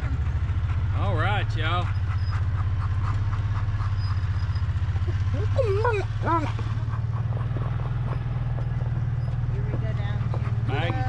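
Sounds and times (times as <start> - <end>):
vehicle engine humming: 0.0 - 11.0
dog whining: 1.8 - 11.0.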